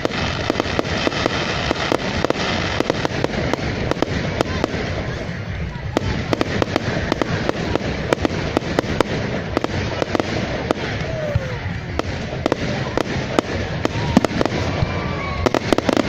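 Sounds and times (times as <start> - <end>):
fireworks bangs and cracks: 0.0 - 16.0
fireworks crackling and booming: 0.0 - 16.0.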